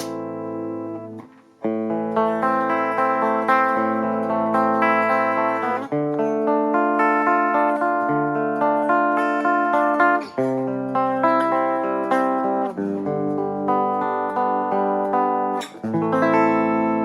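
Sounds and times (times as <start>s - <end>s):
electric guitar ringing chords: 0.0s - 17.0s
guitar strum scrape: 0.0s - 17.0s.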